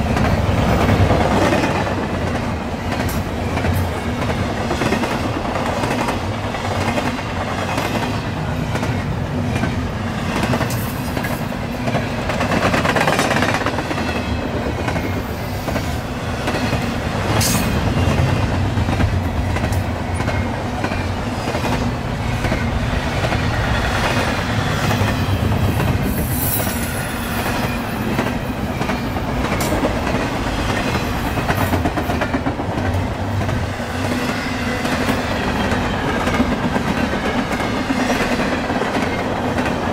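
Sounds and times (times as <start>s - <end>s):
train clanks: 0.0s - 39.9s
train wheels rumbling on rails: 0.0s - 39.9s.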